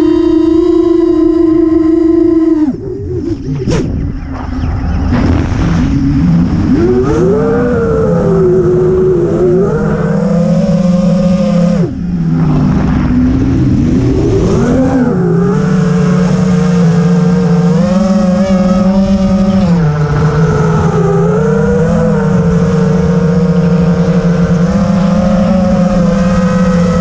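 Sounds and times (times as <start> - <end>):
quadcopter motors whining: 0.0 - 5.1, 6.0 - 27.0.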